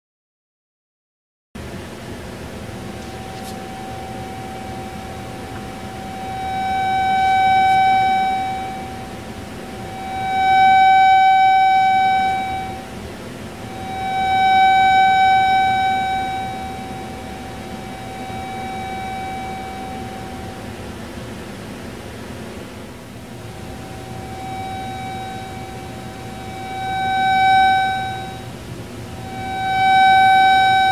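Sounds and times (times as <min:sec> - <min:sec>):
buzzy tone through speaker: 0:02.9 - 0:20.8, 0:23.4 - 0:30.9.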